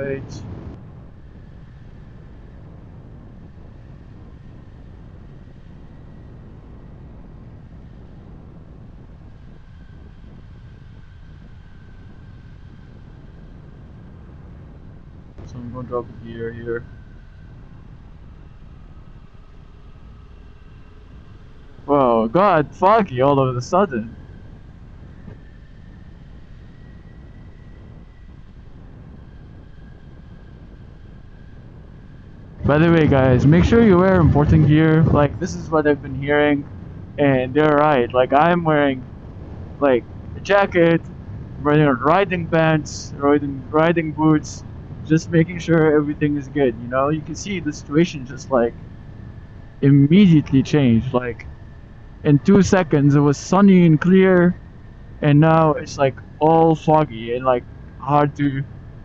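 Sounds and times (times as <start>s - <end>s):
faint whine: 0.0s - 59.0s
wind rush on microphone: 0.0s - 59.0s.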